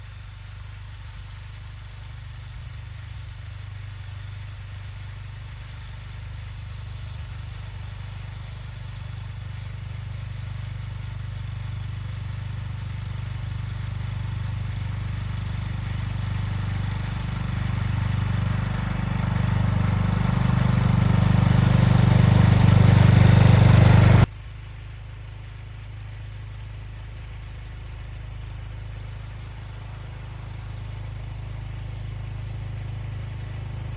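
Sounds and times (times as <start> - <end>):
lawn tractor engine running: 0.0 - 24.3, 25.3 - 33.9.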